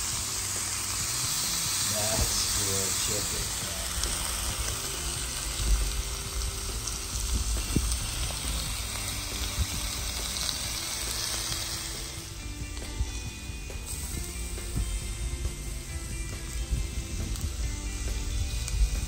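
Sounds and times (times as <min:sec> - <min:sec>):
background music: 0:00.0 - 0:19.0
chicken sizzling in pan: 0:00.0 - 0:19.0.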